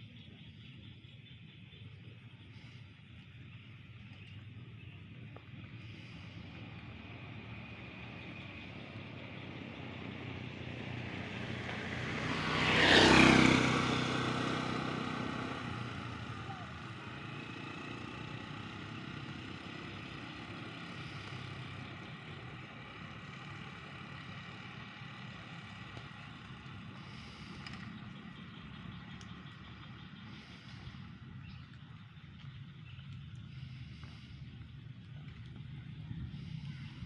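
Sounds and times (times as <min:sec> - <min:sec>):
motor passing by: 0:05.7 - 0:37.0.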